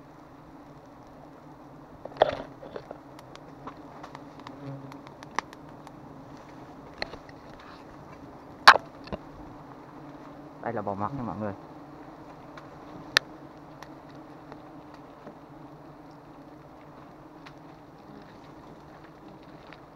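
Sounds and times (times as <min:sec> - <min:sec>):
bees buzzing: 0:00.0 - 0:19.9.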